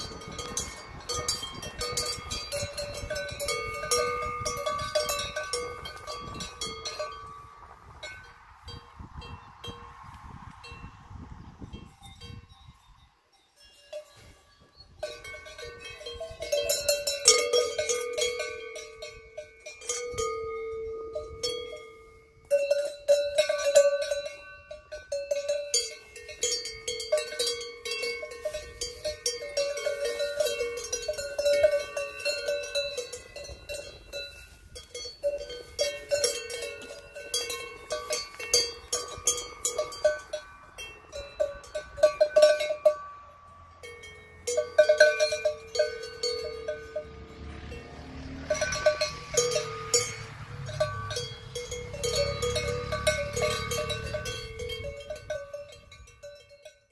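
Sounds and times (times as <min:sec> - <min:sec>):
cowbells clanking: 0:00.0 - 0:10.0, 0:11.7 - 0:56.9.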